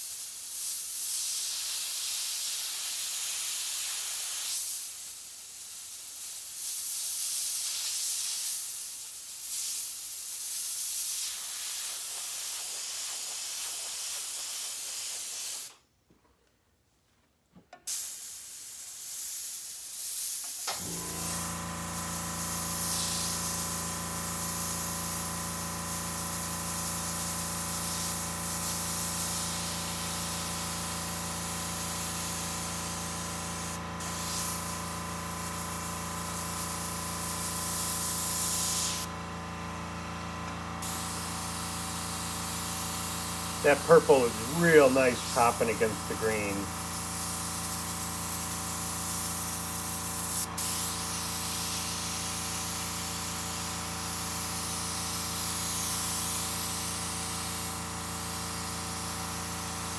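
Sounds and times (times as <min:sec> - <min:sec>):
airbrush spraying hiss: 0:00.0 - 0:15.8, 0:17.9 - 0:39.1, 0:40.8 - 0:59.9.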